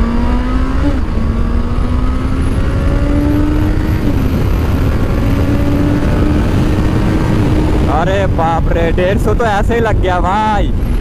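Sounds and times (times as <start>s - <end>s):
gear upshifts: 0.0s - 10.1s
motorcycle engine accelerating: 0.0s - 10.1s
wind rumble on microphone: 0.0s - 11.0s.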